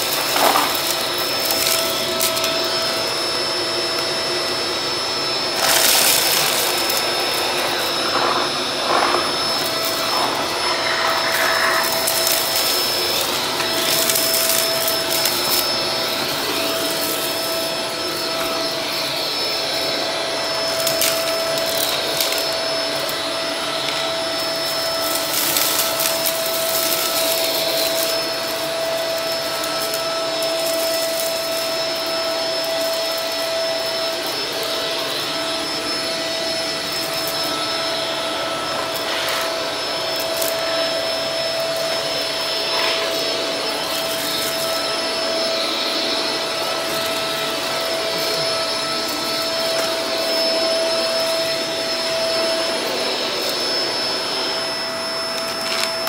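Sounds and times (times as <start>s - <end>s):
upright vacuum cleaner running: 0.0s - 56.0s.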